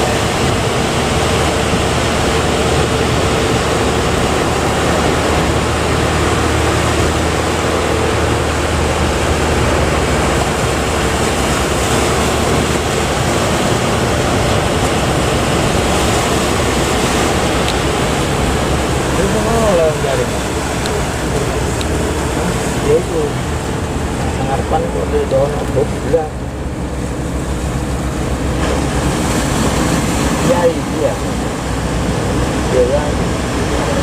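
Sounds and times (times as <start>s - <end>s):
heavy surf breaking: 0.0s - 34.0s
low hum: 0.0s - 34.0s.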